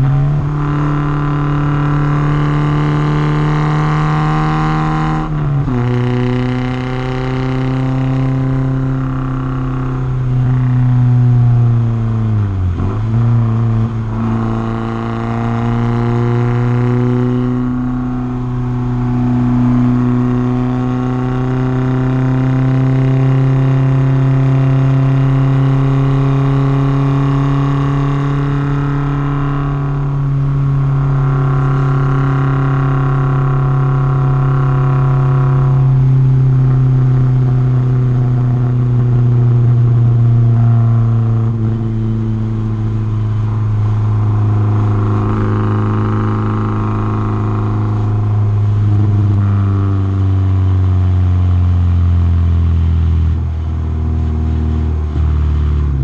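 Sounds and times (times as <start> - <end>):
car engine running: 0.0 - 22.4, 23.0 - 56.0.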